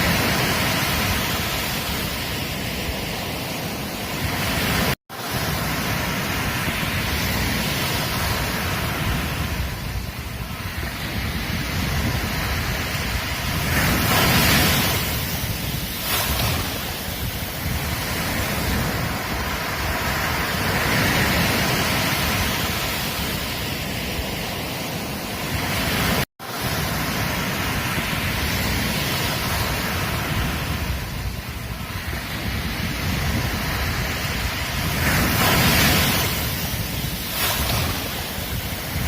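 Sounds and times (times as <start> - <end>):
low wind rumble on microphone: 0.0 - 39.0
ocean surf washing on beach: 0.0 - 39.0.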